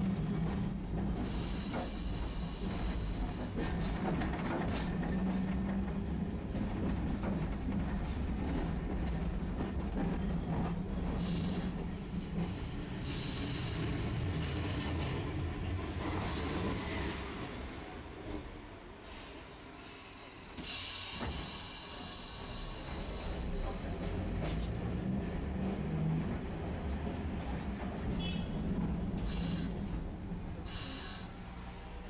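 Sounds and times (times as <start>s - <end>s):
streetcar wheels on rails: 0.0s - 32.0s.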